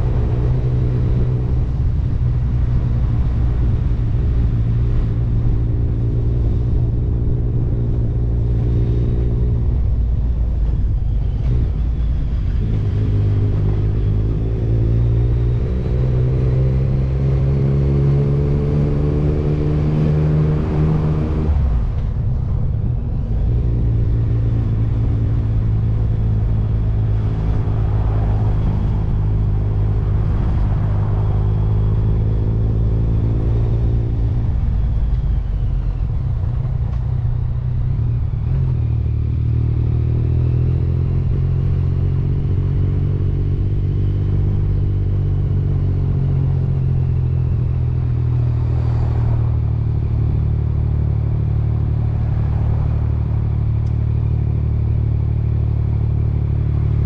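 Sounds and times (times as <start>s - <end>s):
motorcycle engine revving: 10.8s - 57.0s.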